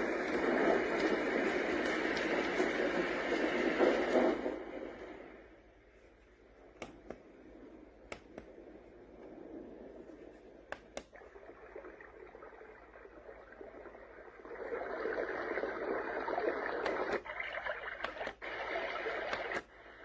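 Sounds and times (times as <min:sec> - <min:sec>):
white noise from small speaker: 0:00.0 - 0:20.0.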